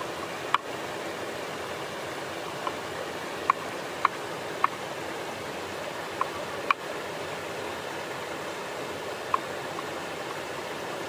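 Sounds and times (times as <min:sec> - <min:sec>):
flowing stream: 0:00.0 - 0:11.0.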